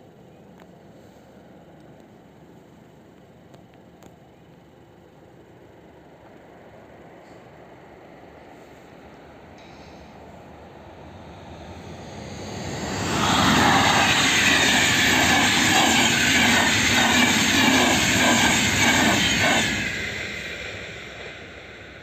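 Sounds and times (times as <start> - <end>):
train passing with wheel clatter: 0.1 - 22.0.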